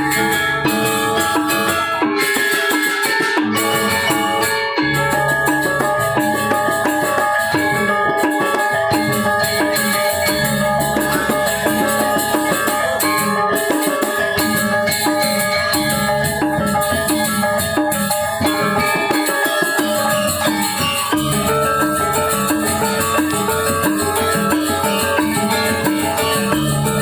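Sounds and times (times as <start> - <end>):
drums: 0.0 - 27.0
metallophones and gongs ringing: 0.0 - 27.0.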